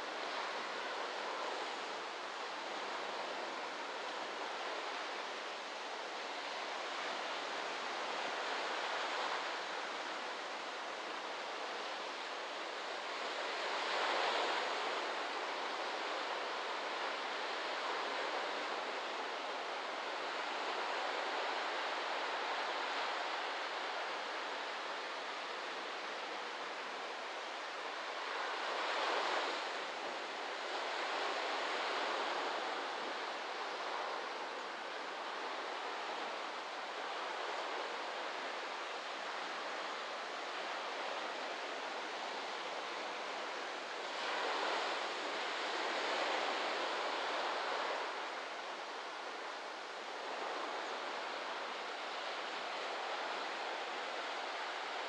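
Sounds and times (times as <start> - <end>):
ocean waves breaking on a beach: 0.0 - 55.0.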